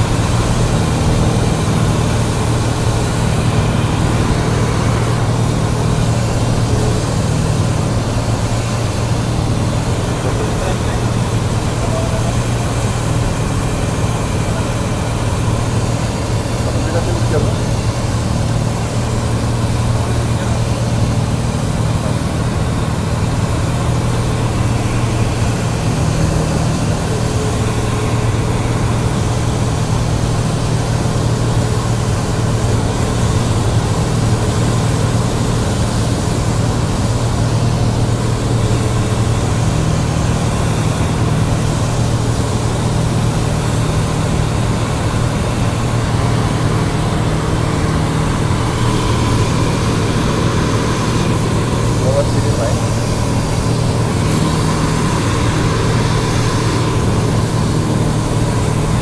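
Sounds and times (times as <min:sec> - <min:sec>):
air hissing over airframe: 0:00.0 - 0:59.0
propeller plane engine droning: 0:00.0 - 0:59.0.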